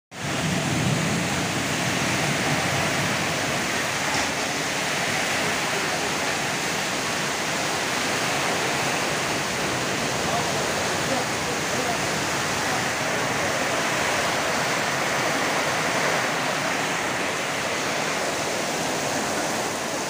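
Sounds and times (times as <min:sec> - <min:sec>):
heavy rain hissing: 0:00.1 - 0:20.0
strong wind: 0:00.1 - 0:20.0.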